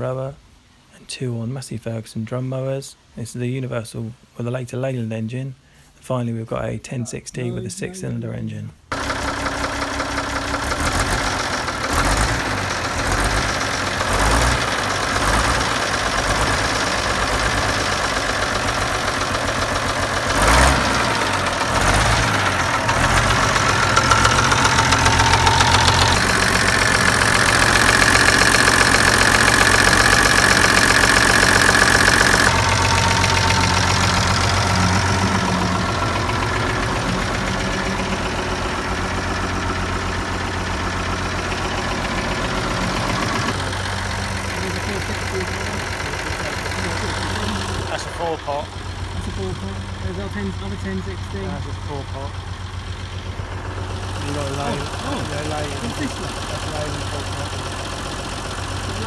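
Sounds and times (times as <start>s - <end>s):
tractor engine running: 8.9s - 59.0s.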